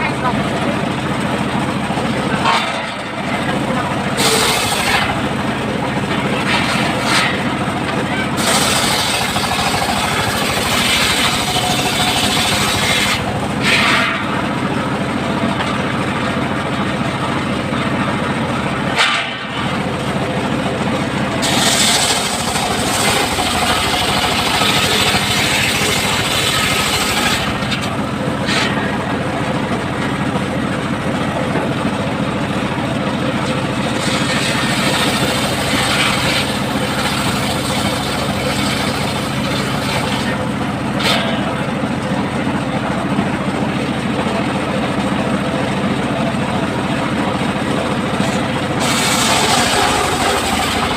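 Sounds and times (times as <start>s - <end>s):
circular saw cutting timber: 2.0s - 18.0s, 18.8s - 30.5s, 32.6s - 42.9s, 47.1s - 50.9s.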